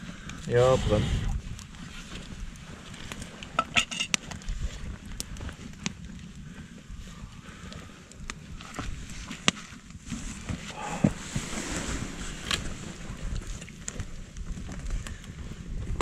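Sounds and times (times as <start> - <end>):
campfire crackling and popping: 0.0 - 16.0
wind rumble on microphone: 0.0 - 16.0.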